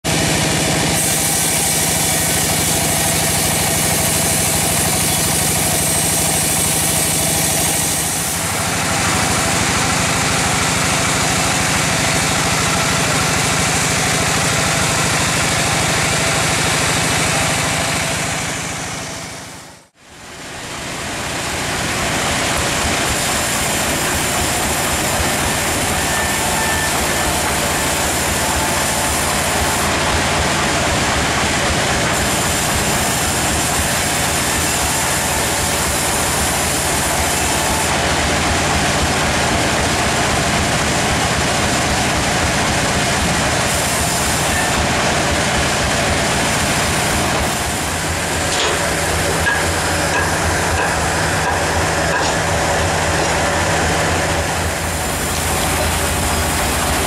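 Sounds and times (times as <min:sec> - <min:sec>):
band saw cutting a log: 0:00.0 - 0:19.6, 0:21.0 - 0:57.0.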